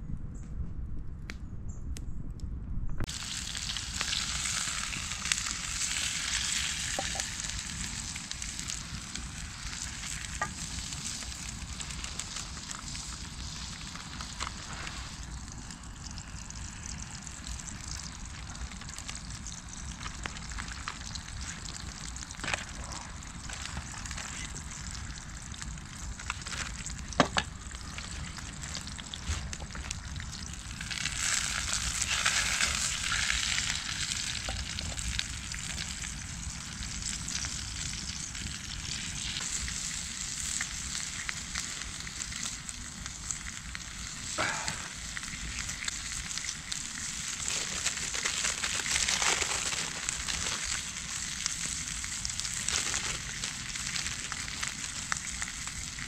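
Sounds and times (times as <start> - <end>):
sausages sizzling in a pan: 3.1 - 56.0.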